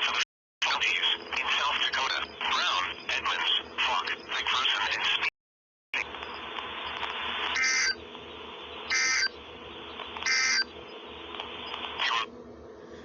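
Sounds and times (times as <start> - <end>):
radio static: 0.0 - 5.3, 6.0 - 12.4
warbling digital data bursts: 0.7 - 5.2, 6.0 - 12.3.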